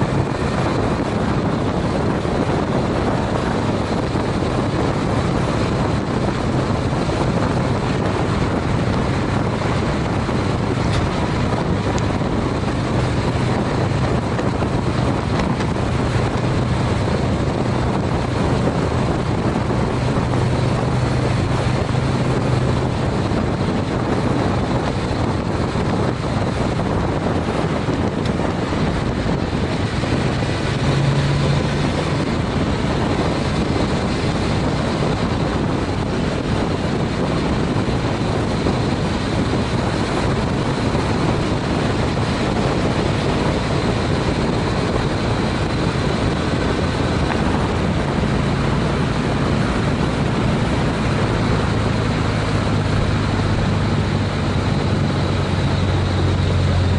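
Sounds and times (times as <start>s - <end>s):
motorcycle engine hum: 0.0s - 56.9s
wind rushing over camera: 0.0s - 56.9s.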